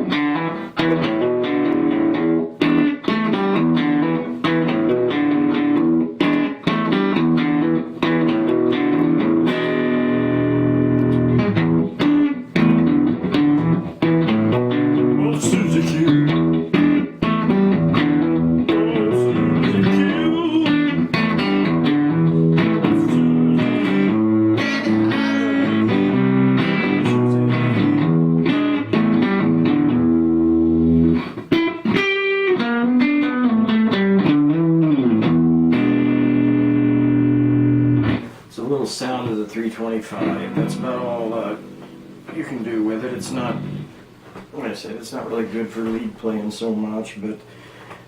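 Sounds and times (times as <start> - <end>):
electric guitar riff: 0.0 - 38.5, 39.8 - 44.2.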